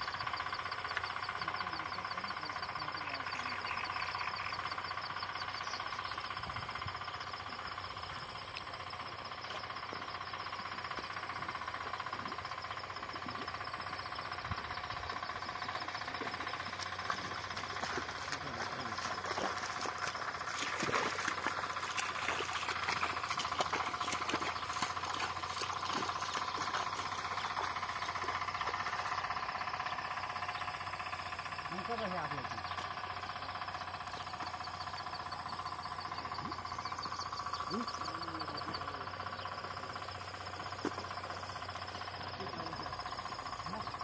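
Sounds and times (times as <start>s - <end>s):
frogs and insects trilling: 0.0s - 44.0s.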